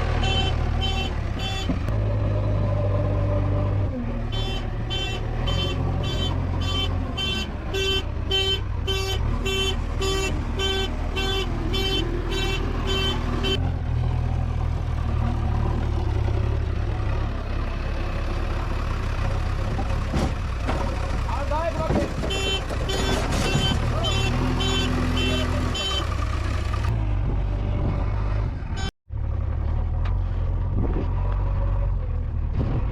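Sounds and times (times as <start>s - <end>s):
heavy diesel engine running: 0.0s - 27.5s.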